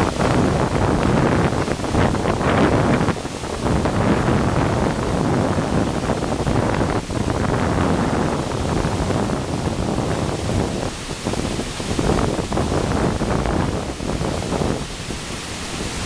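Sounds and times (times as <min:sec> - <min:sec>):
water rushing over a drop: 0:00.0 - 0:16.0.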